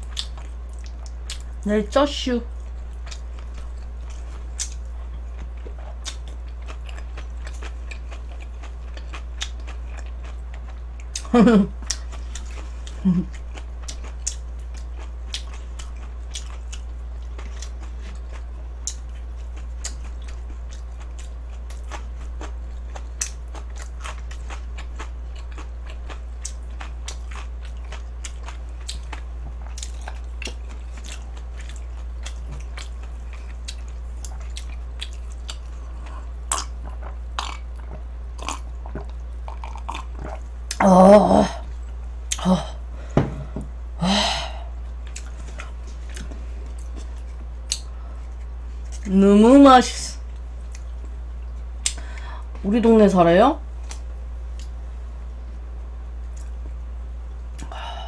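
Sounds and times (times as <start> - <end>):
person chewing food: 0.0 - 1.6, 2.5 - 40.9, 41.5 - 49.1, 50.2 - 52.5, 56.3 - 56.8, 57.5 - 58.0
steady low hum: 0.0 - 58.0.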